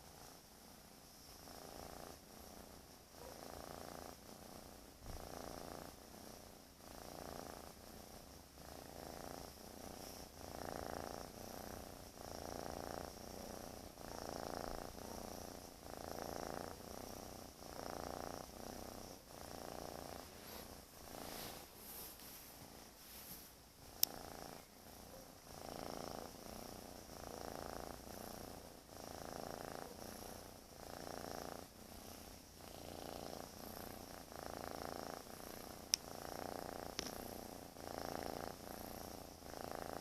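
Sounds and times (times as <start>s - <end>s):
cat snoring: 0.0s - 40.0s.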